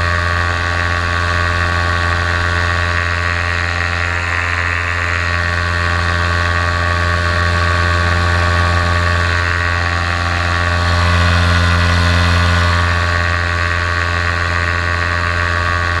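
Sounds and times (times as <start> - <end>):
paramotor engine and propeller: 0.0 - 16.0.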